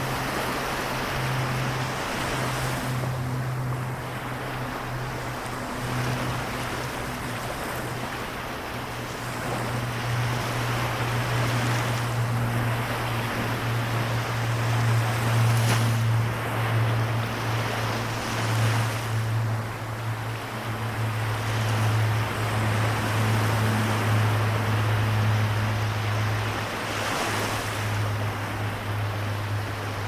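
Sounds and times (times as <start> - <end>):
small waves washing on shore: 0.0 - 30.0
steady low drone: 0.0 - 30.0.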